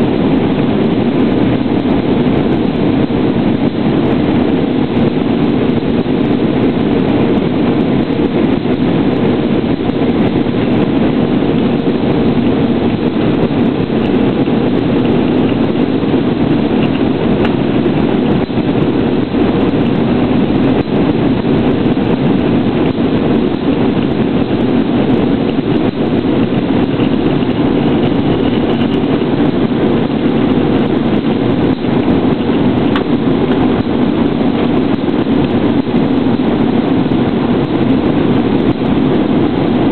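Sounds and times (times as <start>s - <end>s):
airplane cabin engine drone: 0.0s - 39.9s
constant low hum: 0.0s - 39.9s.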